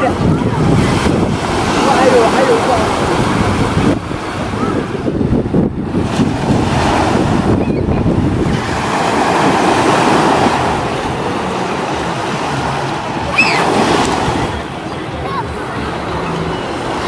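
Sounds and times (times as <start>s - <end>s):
small waves breaking: 0.0s - 5.1s, 5.8s - 17.0s.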